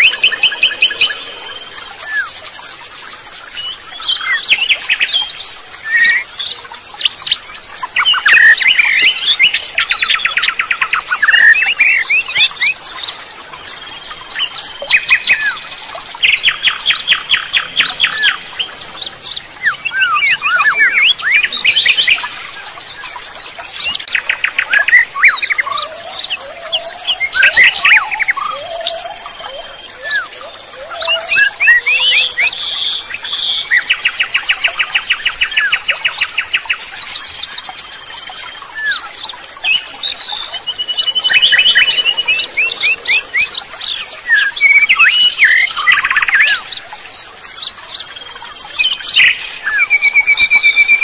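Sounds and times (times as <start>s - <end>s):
songbirds singing and chirping: 0.0s - 51.0s.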